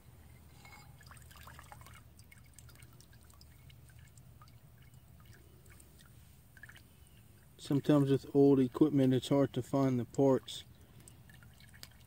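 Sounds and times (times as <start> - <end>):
faint fuel drips: 0.1 - 12.0.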